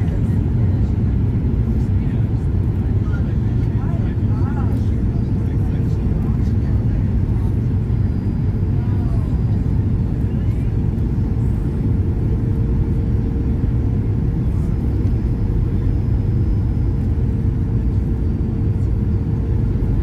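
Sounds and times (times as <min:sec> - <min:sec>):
airplane cabin roar: 0:00.0 - 0:20.0
jet engine noise: 0:00.0 - 0:20.0.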